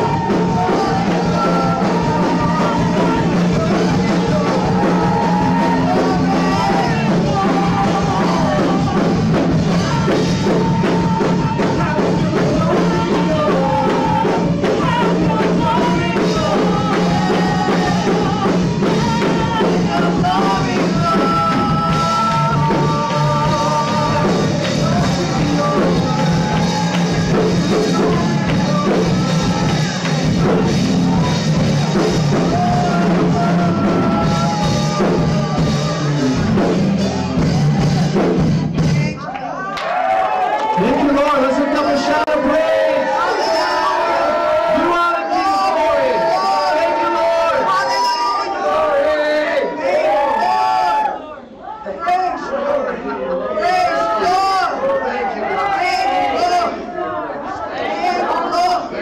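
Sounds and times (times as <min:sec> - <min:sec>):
people singing: 0:00.0 - 0:38.4, 0:40.1 - 0:51.2, 0:52.1 - 0:59.0.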